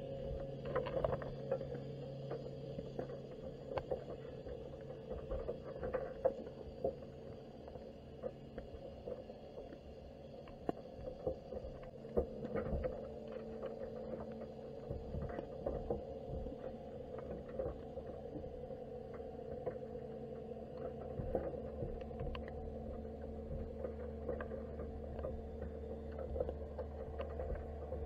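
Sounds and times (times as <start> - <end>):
underwater low hum: 0.0 - 28.0.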